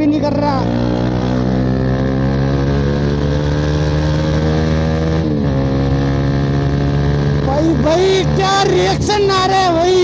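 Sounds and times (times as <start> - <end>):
loud motorcycle engine revving: 0.0 - 10.0.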